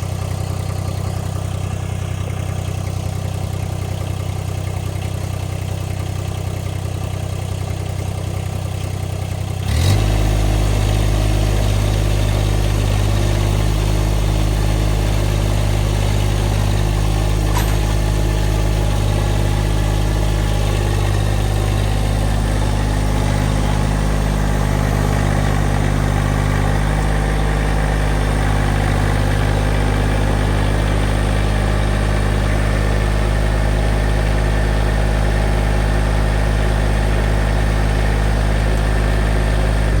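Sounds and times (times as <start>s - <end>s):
engine idling and revving: 0.0s - 40.0s.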